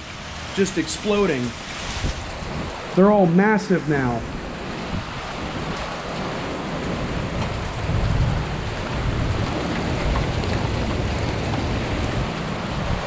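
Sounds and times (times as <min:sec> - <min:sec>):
heavy rain falling: 0:00.0 - 0:13.0
low rumble of wind or thunder: 0:01.3 - 0:03.0, 0:04.2 - 0:13.0.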